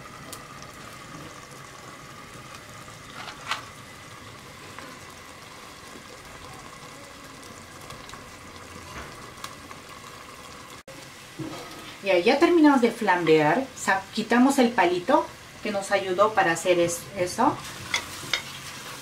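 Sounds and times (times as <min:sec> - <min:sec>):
sauce simmering in a pot: 0:00.0 - 0:19.0.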